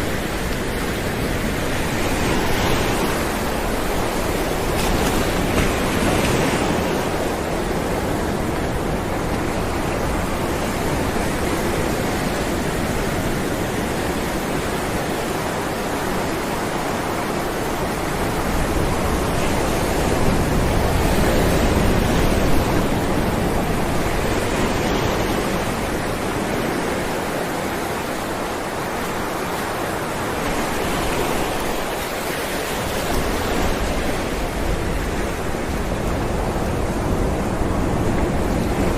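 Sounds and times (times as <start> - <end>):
ocean waves breaking on rocks: 0.0 - 38.9.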